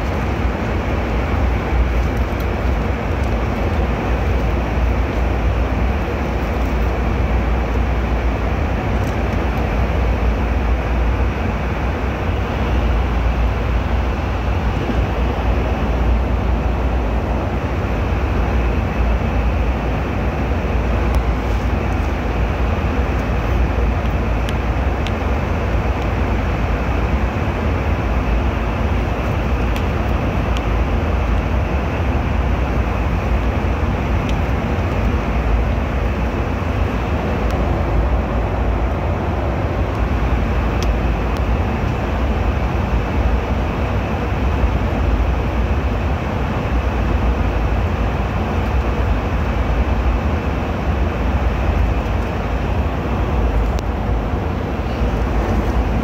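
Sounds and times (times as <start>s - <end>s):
airliner cabin engine rush: 0.0s - 56.0s.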